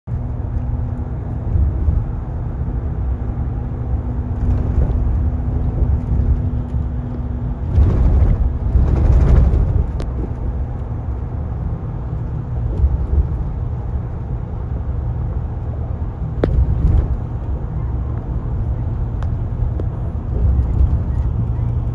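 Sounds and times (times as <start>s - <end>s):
bus engine and road rumble: 0.0s - 21.9s
hum: 0.1s - 21.9s.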